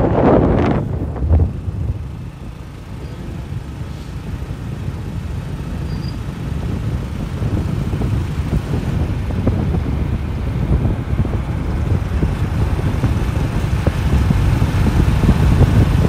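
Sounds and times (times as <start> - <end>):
wind on microphone: 0.0 - 2.2, 3.1 - 16.0
road noise: 0.0 - 16.0.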